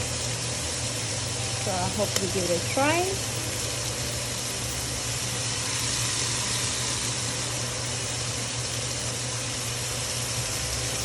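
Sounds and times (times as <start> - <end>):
food sizzling in a frying pan: 0.0 - 11.0
steady low hum: 0.0 - 11.0.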